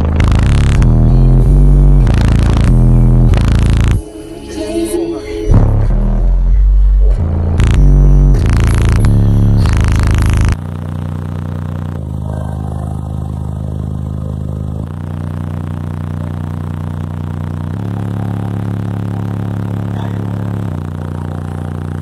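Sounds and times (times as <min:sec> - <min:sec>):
car subwoofers playing bass music: 0:00.0 - 0:22.0.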